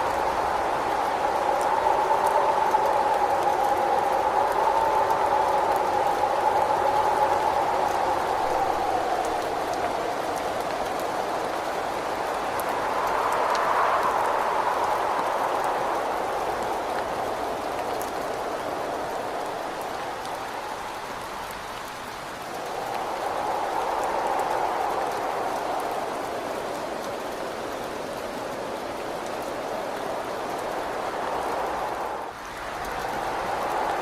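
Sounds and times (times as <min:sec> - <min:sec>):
rain pattering on a window: 0:00.0 - 0:34.0
rushing wind: 0:00.0 - 0:34.0.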